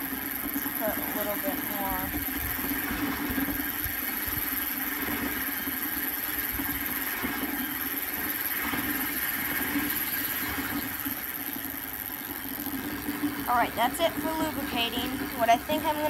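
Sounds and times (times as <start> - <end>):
steady mechanical drone: 0.0 - 16.0.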